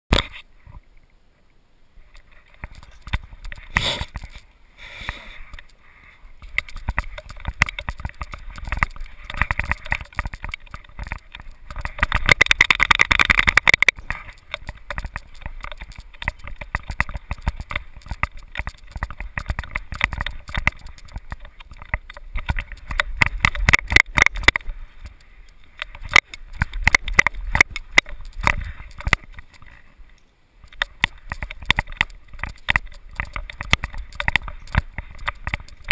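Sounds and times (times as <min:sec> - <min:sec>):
camera housing knocking and rattling: 0:02.5 - 0:04.3, 0:06.4 - 0:25.2, 0:25.8 - 0:29.8, 0:30.6 - 0:35.9.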